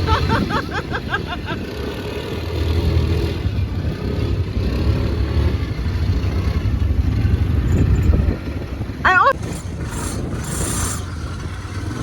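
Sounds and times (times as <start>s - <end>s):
quad bike engine rumbling: 0.0s - 12.0s.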